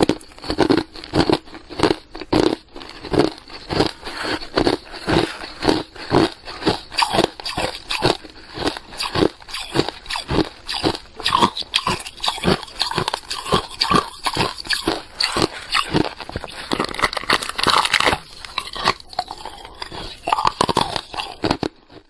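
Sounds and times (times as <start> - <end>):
crunching ice: 0.0 - 22.0.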